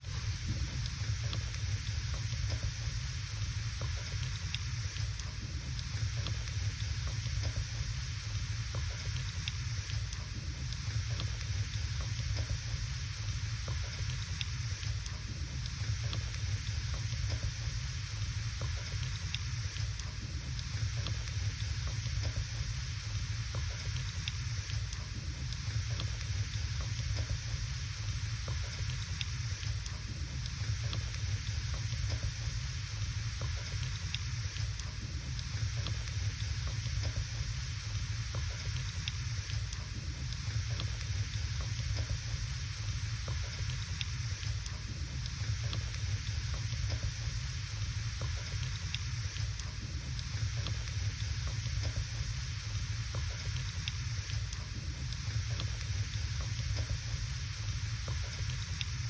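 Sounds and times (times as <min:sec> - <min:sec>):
fire hissing and rumbling: 0:00.0 - 0:59.0
fire crackles and pops: 0:00.1 - 0:59.0.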